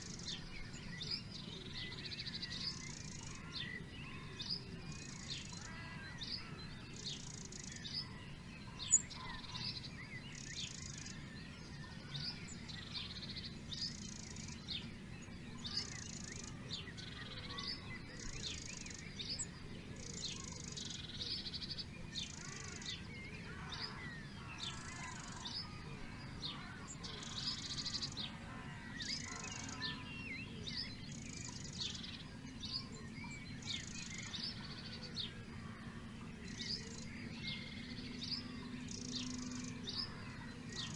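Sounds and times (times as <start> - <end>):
birds chirping and singing: 0.0 - 40.9.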